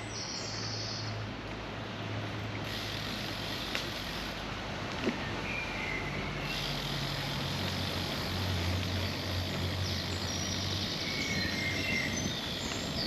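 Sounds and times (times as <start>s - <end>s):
street noise: 0.0s - 13.0s
vehicle engine humming: 1.3s - 13.0s.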